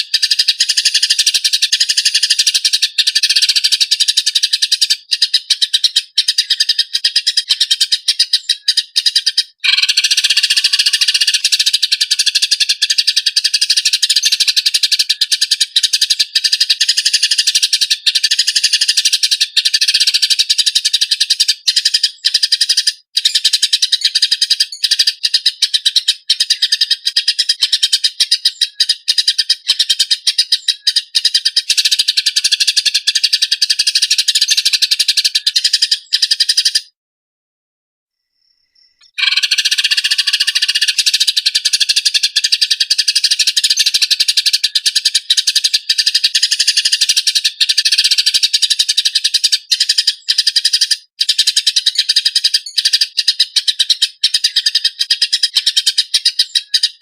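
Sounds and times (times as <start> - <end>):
sparrows chattering harshly: 0.0 - 37.0, 38.7 - 57.0.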